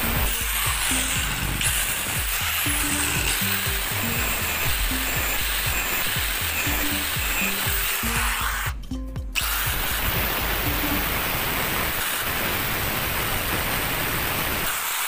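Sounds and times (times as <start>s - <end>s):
background music with beat: 0.0s - 12.4s
angle grinder cutting steel: 0.0s - 15.0s.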